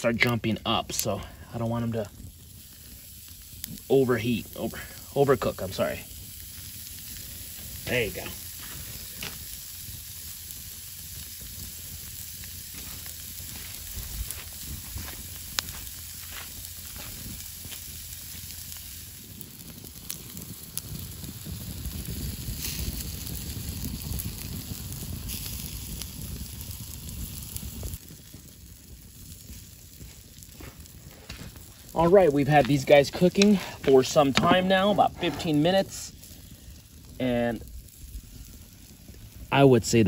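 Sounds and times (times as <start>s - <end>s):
campfire crackling: 0.0s - 40.0s
sausages sizzling on a grill: 0.0s - 40.0s.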